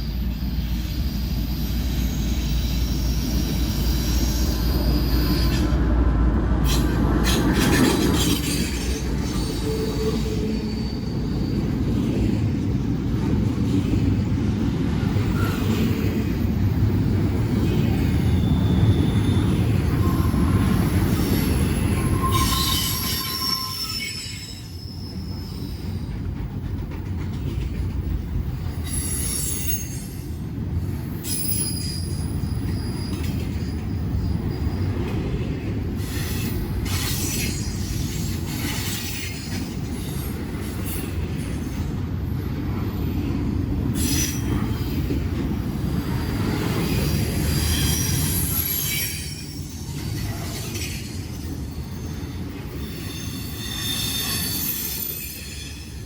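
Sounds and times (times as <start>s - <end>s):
steel wheels squealing: 0.0s - 5.9s, 6.6s - 12.2s, 15.1s - 26.4s, 28.4s - 30.4s, 31.0s - 43.2s, 44.0s - 56.0s
freight train rumbling past: 0.0s - 56.0s.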